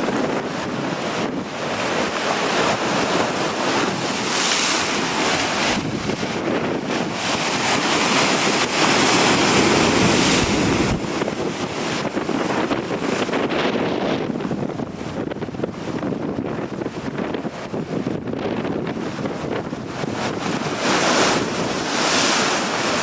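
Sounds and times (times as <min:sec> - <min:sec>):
surf rushing: 0:00.0 - 0:23.0
wind gusting across microphone: 0:00.0 - 0:23.0.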